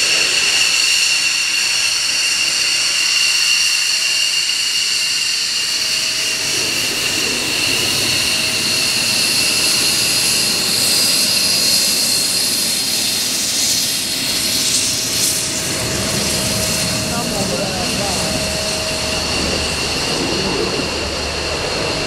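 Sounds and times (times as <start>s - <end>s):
jet exhaust roar: 0.0s - 22.0s
jet turbine whine: 0.0s - 22.0s.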